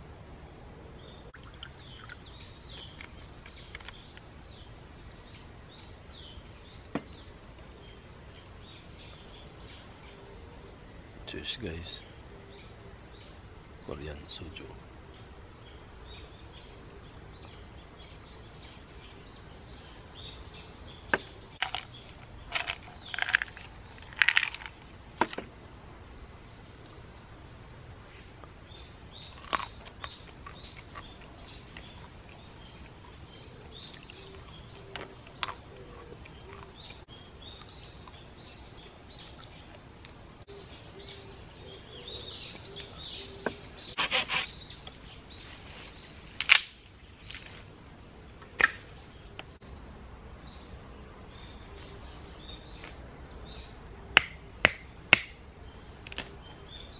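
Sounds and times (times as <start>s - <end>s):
small birds chirping: 1.0s - 56.9s.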